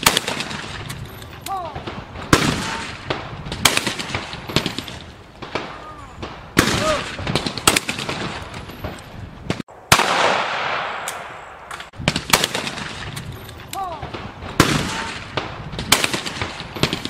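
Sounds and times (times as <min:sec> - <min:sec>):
shotgun shots echoing: 0:00.0 - 0:01.0, 0:01.6 - 0:13.3, 0:13.9 - 0:17.0
sharp cracks: 0:00.0 - 0:17.0.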